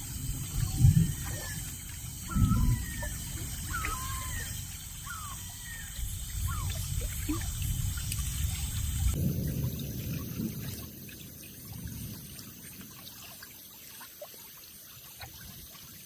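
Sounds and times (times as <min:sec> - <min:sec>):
water trickling and gurgling: 0:00.0 - 0:16.0.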